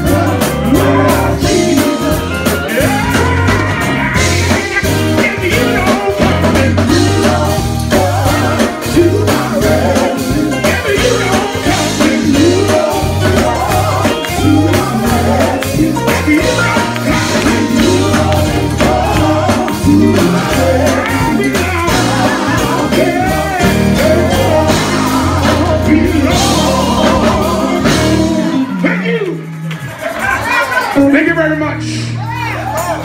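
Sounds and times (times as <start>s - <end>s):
gospel singers: 0.0s - 30.9s
band with electric guitar: 0.0s - 33.0s
steady bass line: 0.0s - 33.0s.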